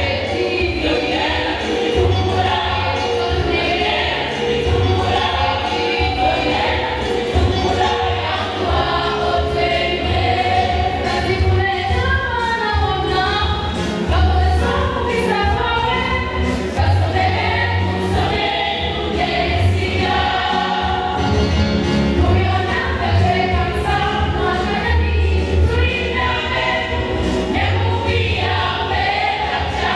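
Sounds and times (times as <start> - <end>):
girls choir singing: 0.0 - 29.9.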